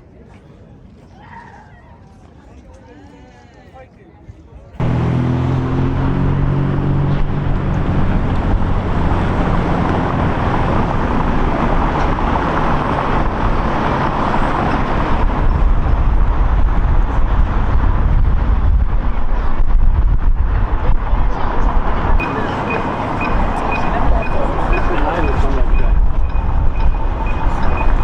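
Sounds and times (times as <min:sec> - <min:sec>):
motor vehicle noise: 0:04.8 - 0:28.0.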